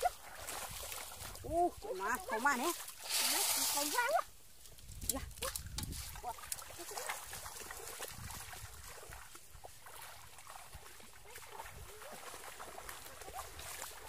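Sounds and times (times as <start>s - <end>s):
feet splashing in water: 0.0s - 4.2s, 5.4s - 14.0s.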